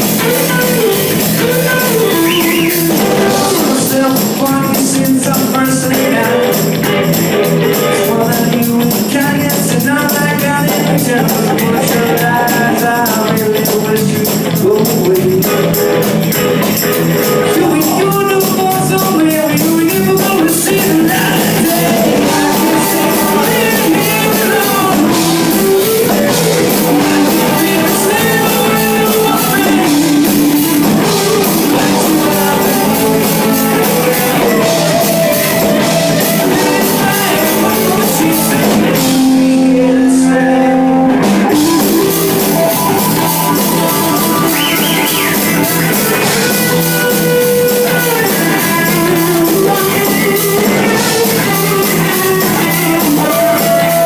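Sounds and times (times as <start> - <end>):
rock music with guitar and drums: 0.0 - 54.0.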